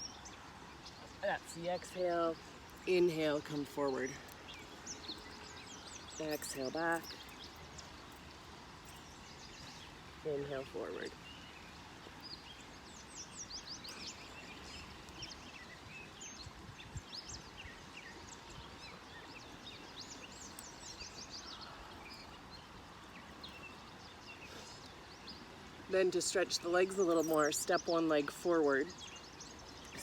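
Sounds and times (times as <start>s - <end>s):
wild birds singing: 0.0s - 30.0s.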